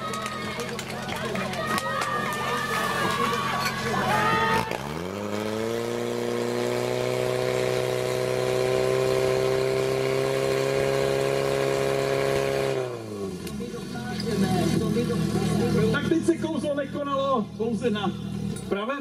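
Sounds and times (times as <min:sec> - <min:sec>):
pump engine revving: 0:00.0 - 0:16.4.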